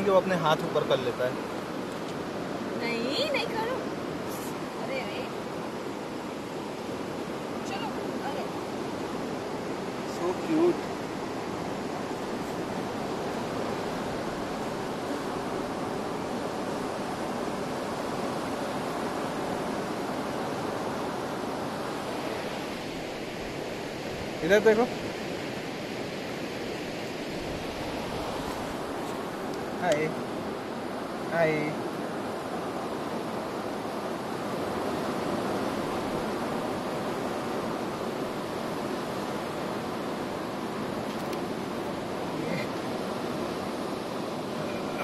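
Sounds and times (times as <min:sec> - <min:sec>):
sea surf rushing: 0:00.0 - 0:45.0.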